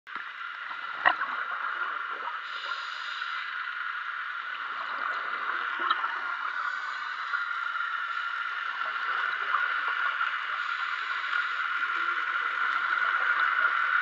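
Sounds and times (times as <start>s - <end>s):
faint bubbling: 0.4s - 14.0s
underwater hiss: 0.6s - 14.0s.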